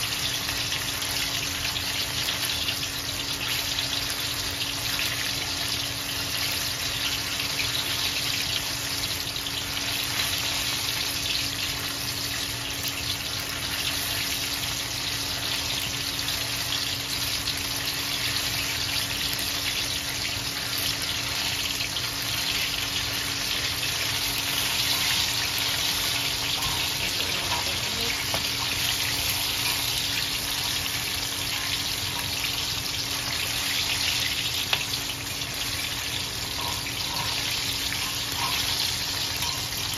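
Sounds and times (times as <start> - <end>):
wings sizzling in hot oil: 0.0 - 39.9.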